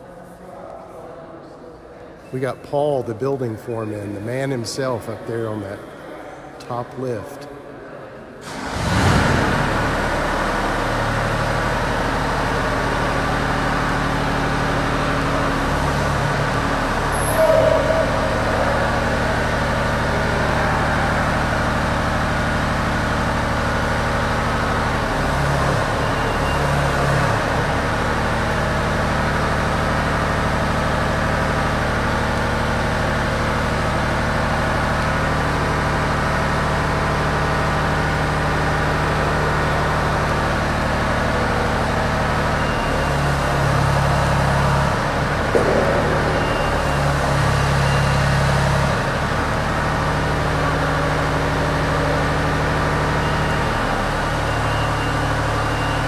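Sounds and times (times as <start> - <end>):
lift engine running: 8.4 - 56.0.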